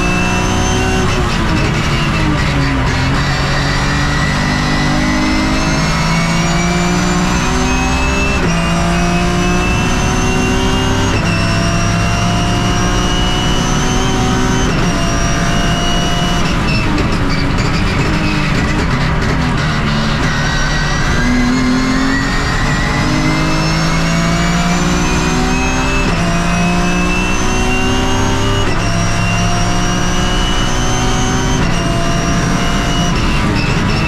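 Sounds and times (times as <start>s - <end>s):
race car engine accelerating: 0.0s - 34.0s.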